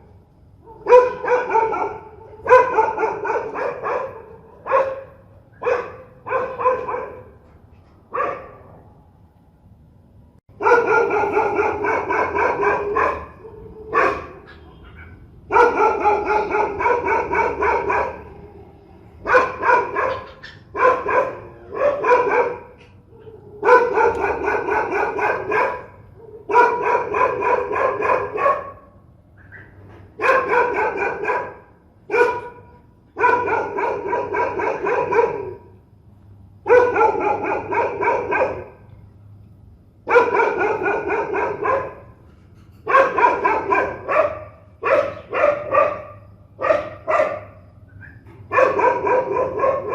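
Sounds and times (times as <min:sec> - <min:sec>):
dog barking fiercely: 0:00.6 - 0:07.4, 0:08.1 - 0:08.8, 0:10.5 - 0:18.5, 0:19.1 - 0:35.8, 0:36.6 - 0:38.9, 0:40.0 - 0:49.9.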